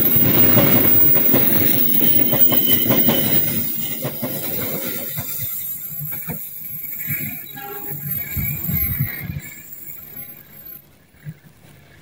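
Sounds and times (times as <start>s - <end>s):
wheels clacking over rail joints: 0.0s - 10.8s
train coaches rolling past: 0.0s - 12.0s.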